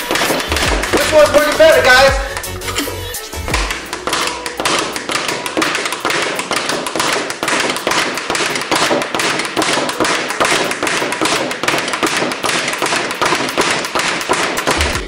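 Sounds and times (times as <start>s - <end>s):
speed bag being punched: 0.0s - 2.5s, 3.5s - 15.0s.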